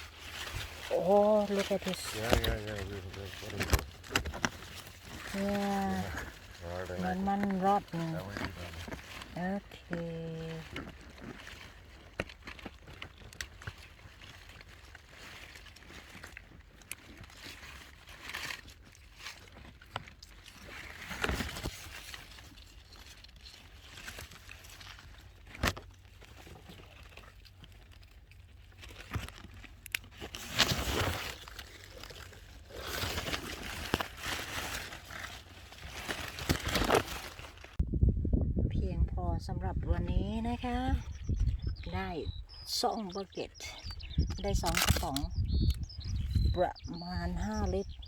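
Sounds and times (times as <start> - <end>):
plants and leaves rustling: 0.0 - 38.0, 38.9 - 48.0.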